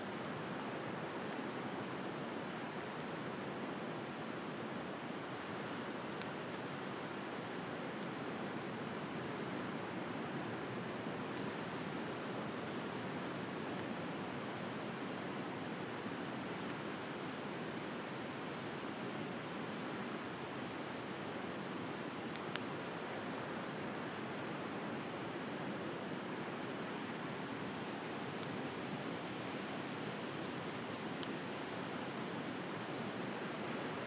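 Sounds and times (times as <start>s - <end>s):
campfire crackling and popping: 4.4s - 12.3s, 13.5s - 21.0s, 22.1s - 34.0s.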